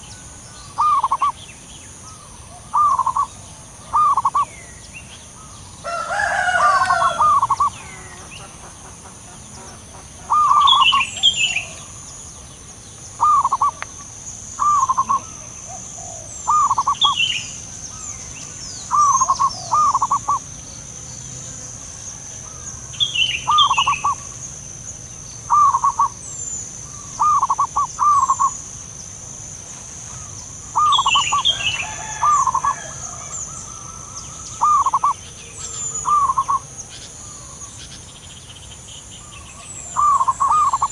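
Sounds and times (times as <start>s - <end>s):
doves cooing: 0.0s - 1.4s, 2.1s - 4.5s, 5.4s - 12.1s, 13.1s - 20.6s, 21.6s - 24.4s, 25.5s - 26.2s, 26.8s - 28.7s, 30.0s - 37.7s, 39.3s - 40.9s.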